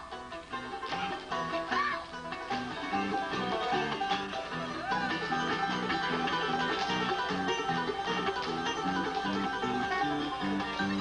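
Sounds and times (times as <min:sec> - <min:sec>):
fast picked banjo: 0:00.0 - 0:11.0
guitar: 0:00.0 - 0:11.0.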